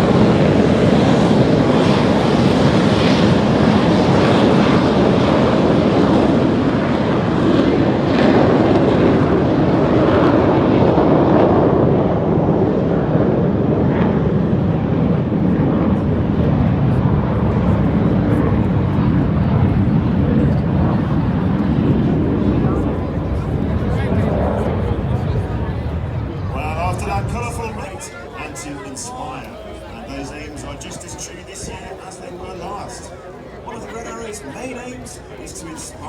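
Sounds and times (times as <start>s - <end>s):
jet aircraft flying overhead: 0.0s - 36.0s.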